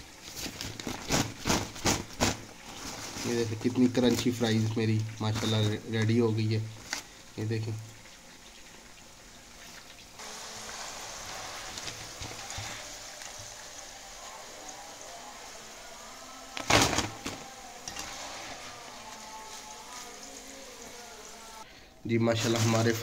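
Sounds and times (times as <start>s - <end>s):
fries sizzling in hot oil: 0.0s - 23.0s.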